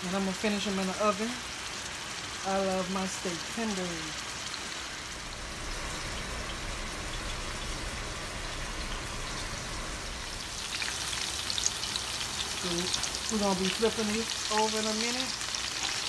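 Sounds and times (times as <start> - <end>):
steaks sizzling in a skillet: 0.1 - 16.0.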